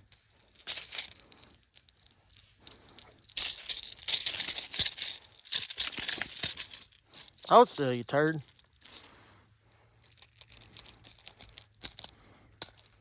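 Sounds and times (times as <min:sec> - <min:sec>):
fishing lure rattling: 0:00.0 - 0:09.2, 0:10.0 - 0:13.0.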